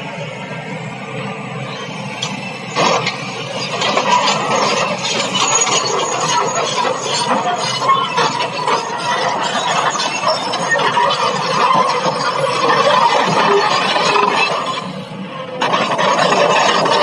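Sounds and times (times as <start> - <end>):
excavator tracks squealing and grinding: 0.0 - 17.0.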